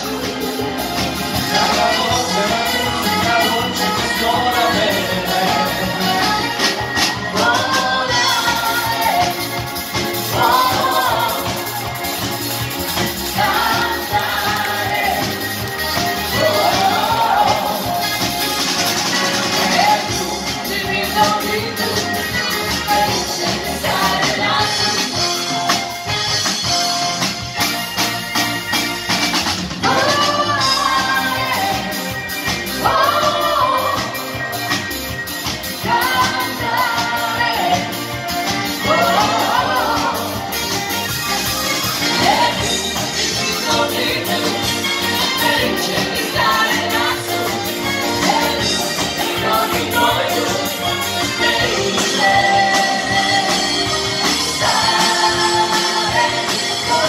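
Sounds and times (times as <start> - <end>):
people singing: 0.0 - 25.8, 29.8 - 57.0
drums: 0.0 - 57.0
live pop band playing: 0.0 - 57.0.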